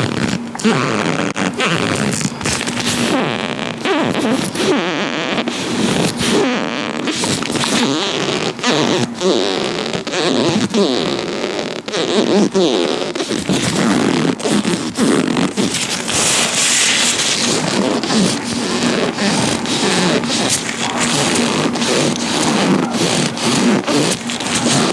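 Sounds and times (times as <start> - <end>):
latex gloves rubbing and squeaking: 0.0 - 24.9
small sharp crackles: 0.0 - 24.9.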